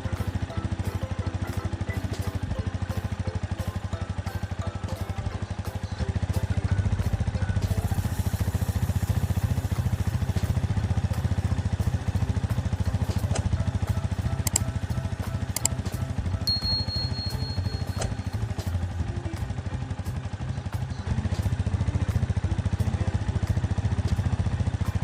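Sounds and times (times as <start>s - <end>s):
engine running with low putter: 0.0s - 25.0s.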